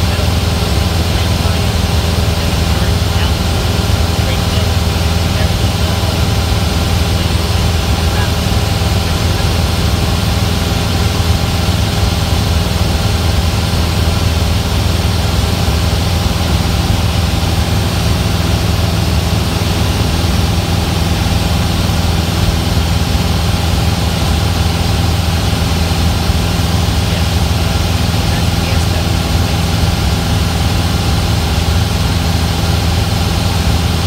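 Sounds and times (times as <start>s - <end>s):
propeller plane engine in cabin: 0.0s - 34.0s.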